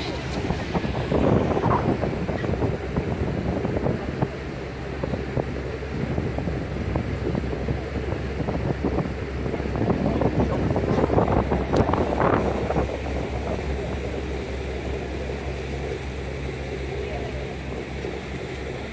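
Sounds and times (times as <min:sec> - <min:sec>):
boat engines humming: 0:00.0 - 0:18.9
wind buffeting microphone: 0:00.0 - 0:18.9.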